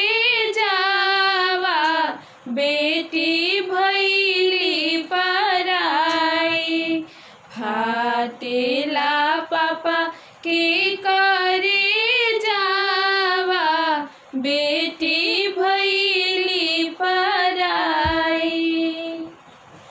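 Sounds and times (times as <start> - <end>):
women singing unaccompanied: 0.0 - 19.5.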